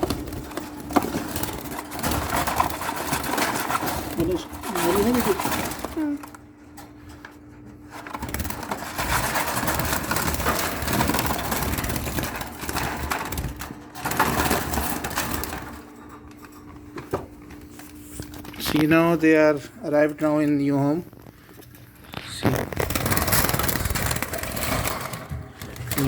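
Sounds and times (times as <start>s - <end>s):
rustling and crinkling handling: 0.0s - 26.0s.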